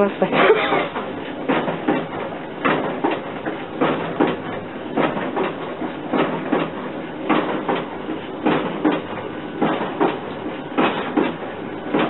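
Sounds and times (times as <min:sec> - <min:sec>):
kiddie ride mechanism knocking: 0:00.3 - 0:12.0.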